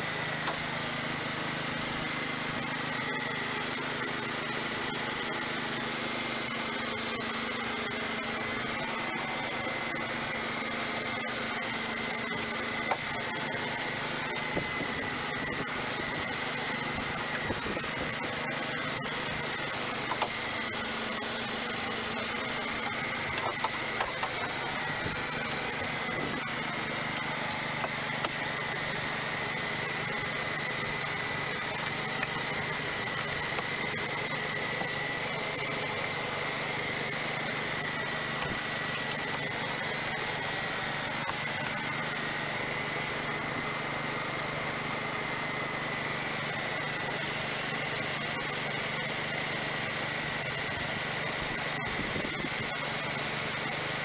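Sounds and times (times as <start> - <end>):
machine whining and humming: 0.0 - 54.0.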